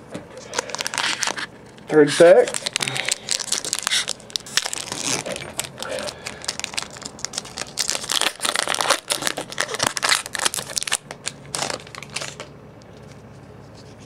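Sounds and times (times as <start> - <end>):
card pack wrapper crinkling: 0.4 - 13.2.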